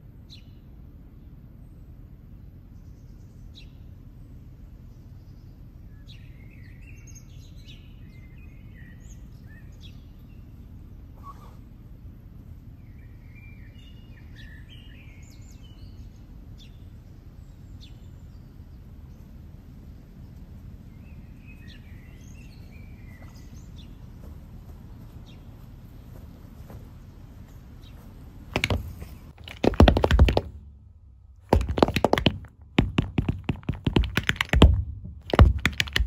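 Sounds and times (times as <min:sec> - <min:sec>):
songbirds chirping and trilling: 0:00.0 - 0:30.6
low outdoor rumble: 0:00.0 - 0:36.0.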